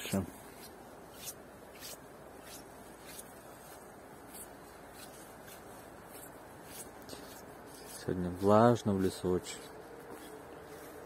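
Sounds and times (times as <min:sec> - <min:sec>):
footsteps on dirt path: 0:00.0 - 0:11.0.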